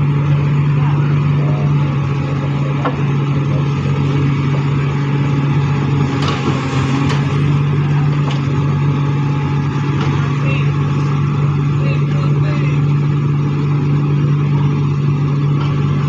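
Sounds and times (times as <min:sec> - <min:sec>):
heavy machine engine humming: 0:00.0 - 0:16.0.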